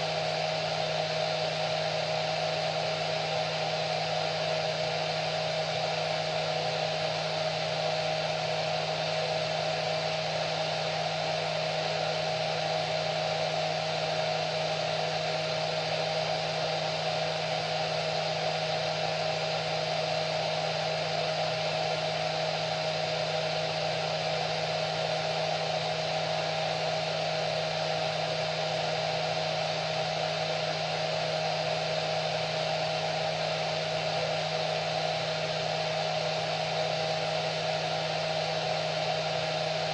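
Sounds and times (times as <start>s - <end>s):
hair dryer running: 2.8s - 39.9s.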